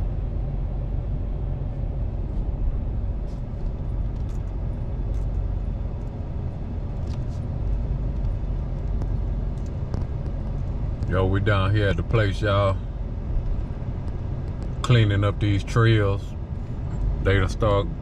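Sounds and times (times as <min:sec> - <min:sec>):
vehicle engine and tyres rumbling: 0:00.0 - 0:18.0.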